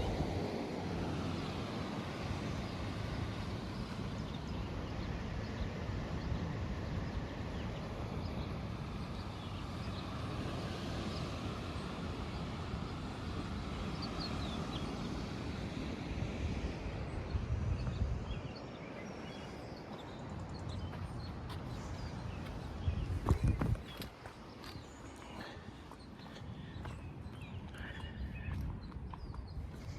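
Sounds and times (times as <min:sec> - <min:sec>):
ocean waves: 0:00.0 - 0:23.3, 0:23.9 - 0:29.9.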